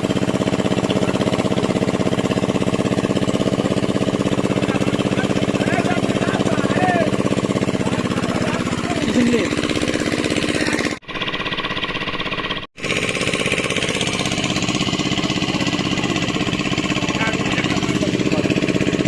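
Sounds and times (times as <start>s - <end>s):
pump engine running: 0.0s - 19.0s.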